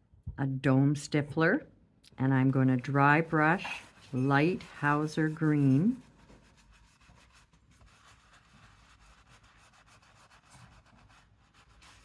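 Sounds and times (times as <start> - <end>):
brush scratchy rubbing: 2.3 - 12.0.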